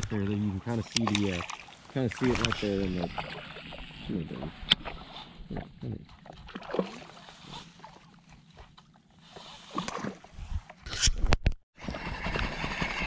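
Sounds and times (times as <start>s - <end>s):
water lapping and sloshing: 0.0s - 10.9s.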